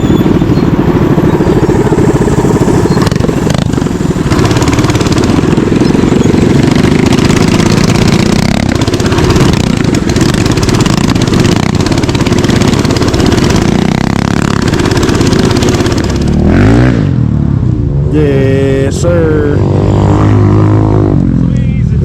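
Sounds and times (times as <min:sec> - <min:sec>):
mini bike engine revving: 0:00.0 - 0:17.5, 0:18.2 - 0:21.5.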